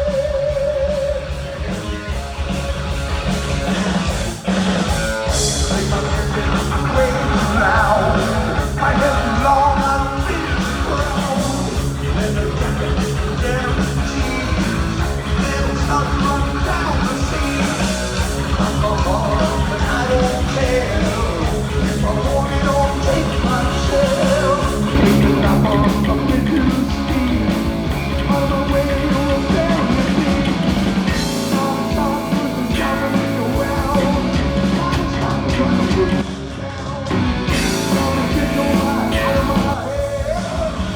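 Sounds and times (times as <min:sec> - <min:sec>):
drum kit: 0:00.0 - 0:40.9
electric guitars: 0:00.0 - 0:40.9
person singing: 0:05.5 - 0:40.9.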